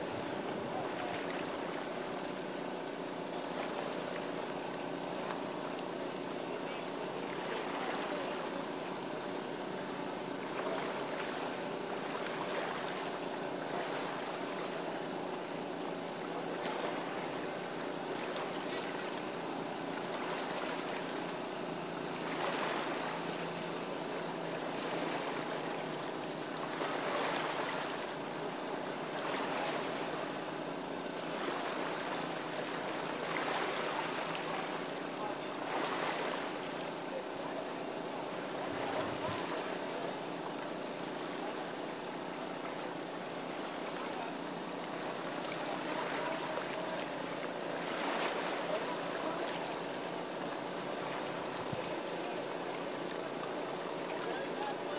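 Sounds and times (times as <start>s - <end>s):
water and wind noise: 0.0s - 54.9s.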